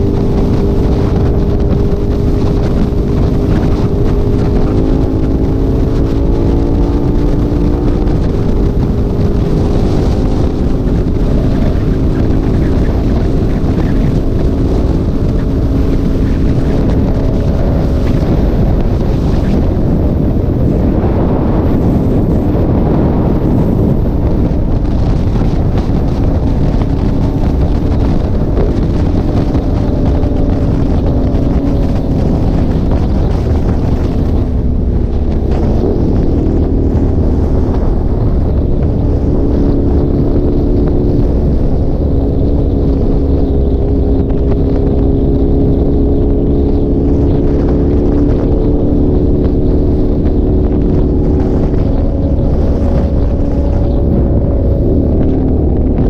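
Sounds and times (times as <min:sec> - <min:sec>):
motorcycle engine cruising: 0:00.0 - 0:56.0
wind noise on microphone: 0:00.0 - 0:56.0.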